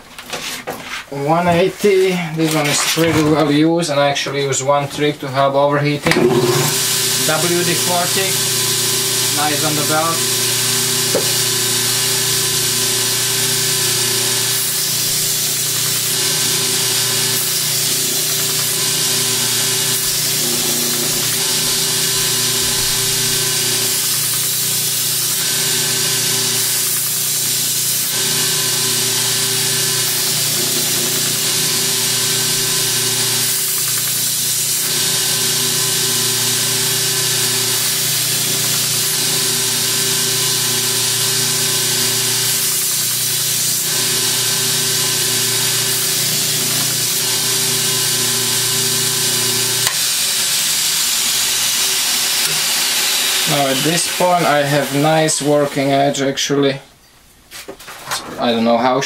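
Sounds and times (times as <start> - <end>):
belt grinder motor hum: 6.1 - 56.0
grinding hiss on steel: 6.4 - 48.8, 49.8 - 55.9.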